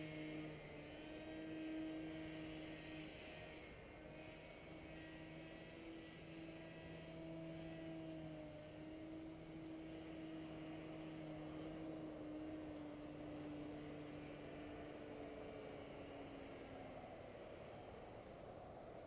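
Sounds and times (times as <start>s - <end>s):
distant paramotor engine hum: 0.0s - 19.0s.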